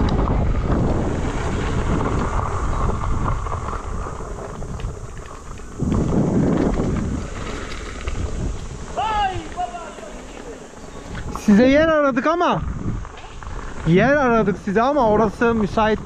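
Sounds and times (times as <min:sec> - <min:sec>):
tyres rumbling on gravel: 0:00.0 - 0:16.0
wind buffeting microphone: 0:00.0 - 0:16.0.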